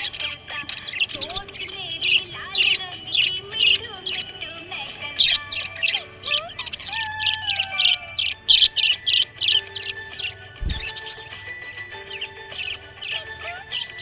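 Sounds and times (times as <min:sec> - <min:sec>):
budgerigars chirping: 0:00.0 - 0:14.0.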